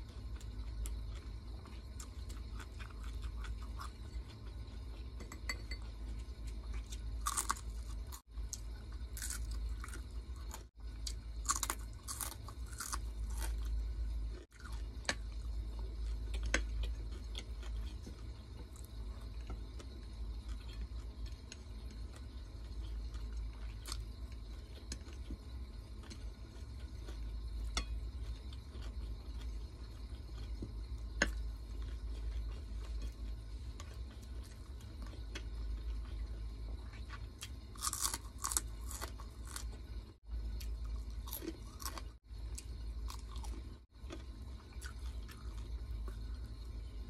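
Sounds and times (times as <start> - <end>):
low steady hum: 0.0 - 47.0
person chewing crunchy food: 0.0 - 47.0.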